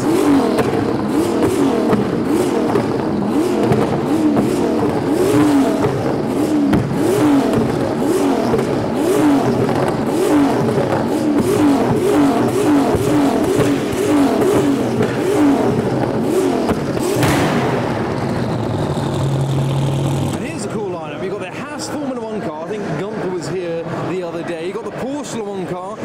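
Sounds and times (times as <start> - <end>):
car engine revving in blips: 0.0 - 22.2.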